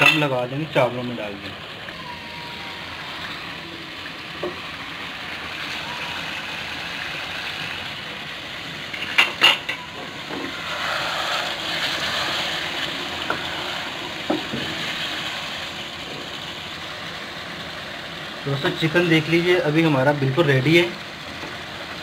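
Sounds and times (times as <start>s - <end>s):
gravy simmering and sizzling: 0.0s - 22.0s.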